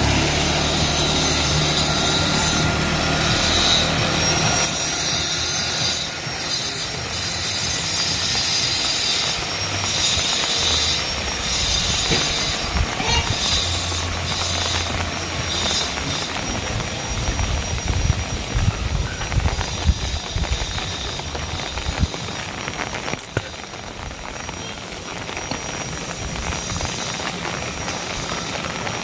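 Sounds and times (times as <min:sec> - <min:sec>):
heavy rain with wind: 0:00.0 - 0:29.0.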